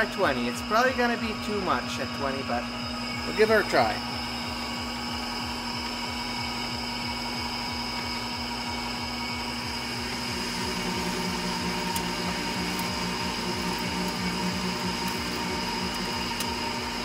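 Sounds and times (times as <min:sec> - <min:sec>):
machine whine: 0:00.0 - 0:17.0
metal lathe humming: 0:00.0 - 0:17.0.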